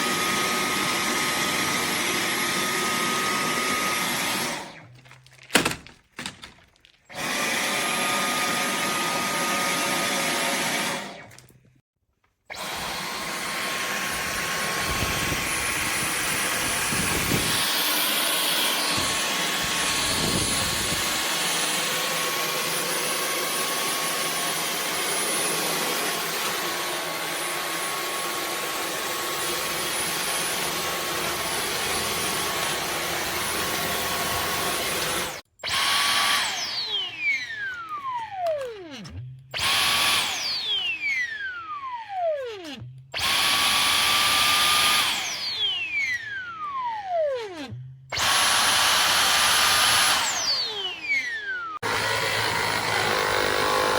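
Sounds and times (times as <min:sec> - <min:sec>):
vacuum cleaner whine: 0:00.0 - 0:04.8, 0:07.1 - 0:11.3, 0:12.5 - 0:53.9.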